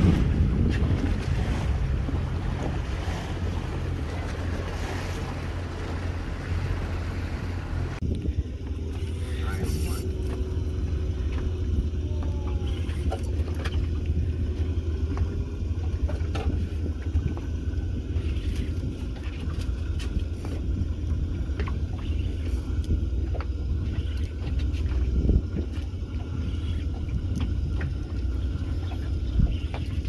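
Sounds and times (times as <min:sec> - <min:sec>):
motorboat engine rumble: 0:00.0 - 0:30.0.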